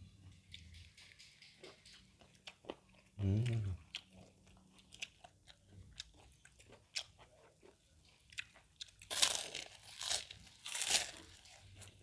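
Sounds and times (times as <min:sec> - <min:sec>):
crunchy food being chewed: 0:00.3 - 0:12.0.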